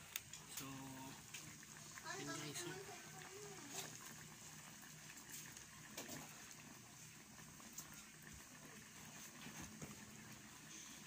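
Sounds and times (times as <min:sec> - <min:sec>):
fish simmering in a wok: 0:00.0 - 0:11.0.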